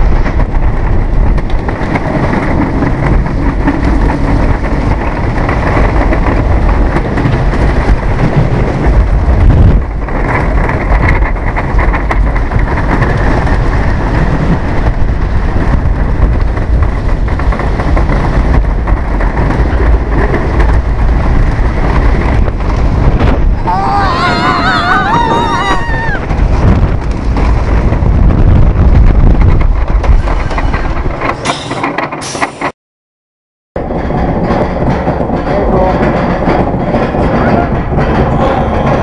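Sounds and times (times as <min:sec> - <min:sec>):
roller coaster rumbling on wooden track: 0:00.0 - 0:32.7, 0:33.8 - 0:39.0.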